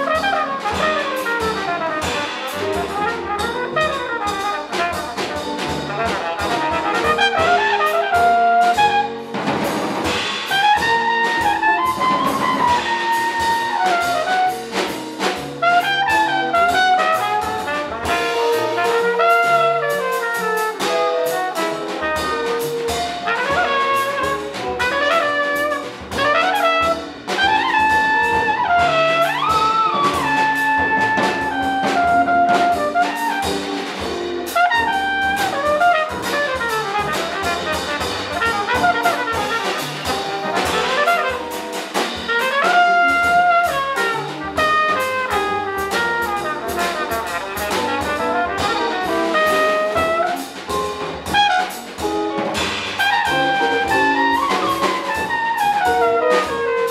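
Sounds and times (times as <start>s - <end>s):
drum kit: 0.0s - 56.9s
trumpet melody: 0.0s - 56.9s
upright bass: 0.0s - 56.9s.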